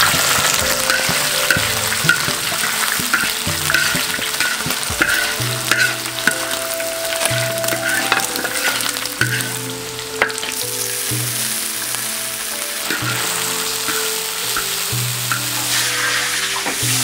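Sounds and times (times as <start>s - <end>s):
meat sizzling in hot oil: 0.0s - 17.0s
metal spatula scraping wok: 0.0s - 17.0s.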